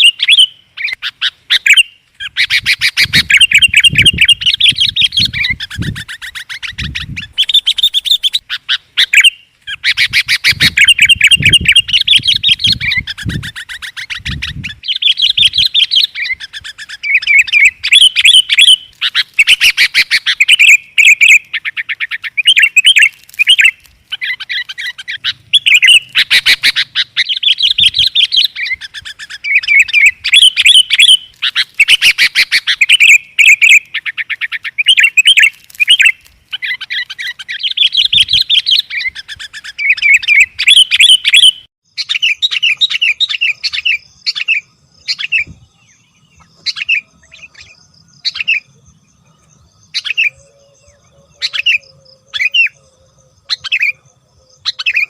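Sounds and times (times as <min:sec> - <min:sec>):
bulbul chirping: 0:00.0 - 0:55.0.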